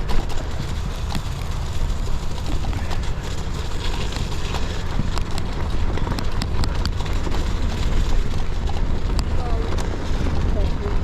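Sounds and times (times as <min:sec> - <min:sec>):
bike tyres crunching over snow: 0:00.0 - 0:11.0
steady low rumble: 0:00.0 - 0:11.0.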